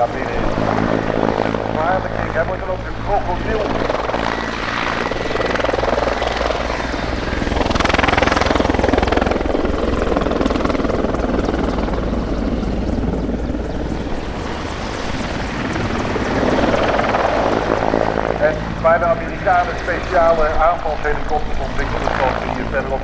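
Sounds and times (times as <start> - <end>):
helicopter flying overhead: 0.0 - 23.0.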